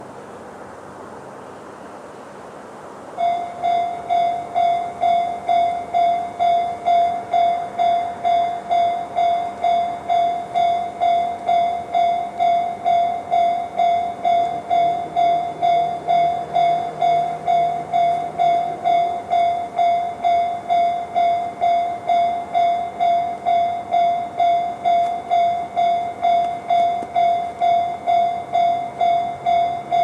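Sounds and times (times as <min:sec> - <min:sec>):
level crossing warning bell: 0:03.2 - 0:30.0.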